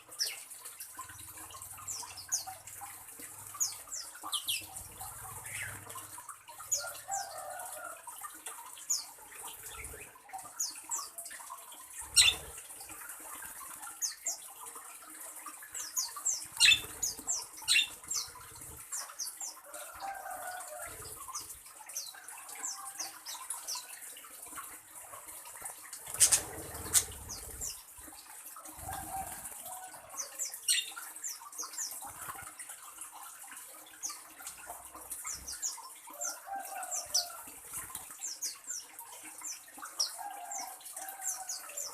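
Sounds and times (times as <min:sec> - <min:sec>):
small birds chirping: 0:00.0 - 0:28.0, 0:28.7 - 0:32.6, 0:33.9 - 0:41.9.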